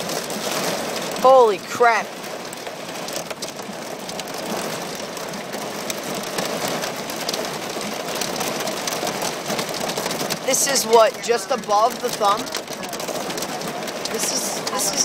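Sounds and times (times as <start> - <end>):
rain and hail on car roof: 0.0 - 15.0.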